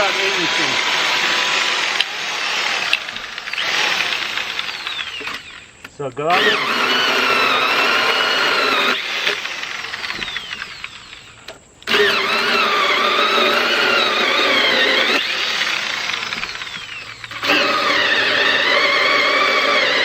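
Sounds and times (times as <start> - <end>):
electric mini chainsaw cutting log: 0.0 - 20.0.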